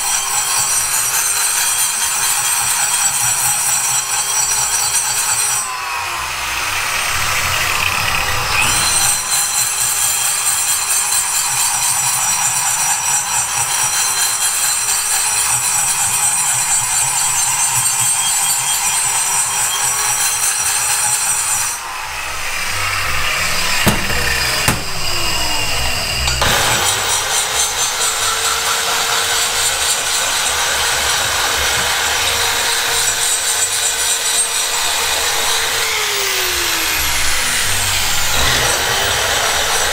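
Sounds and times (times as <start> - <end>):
rotary grinder whining and cutting: 0.0 - 39.9.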